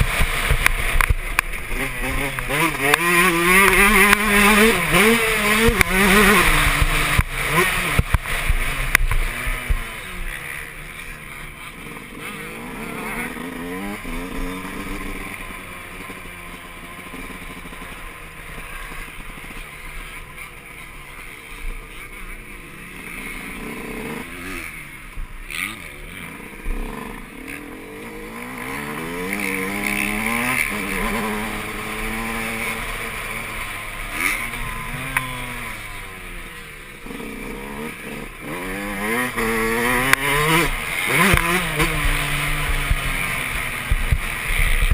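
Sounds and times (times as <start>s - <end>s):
two-stroke motorcycle engine revving: 0.0s - 44.9s.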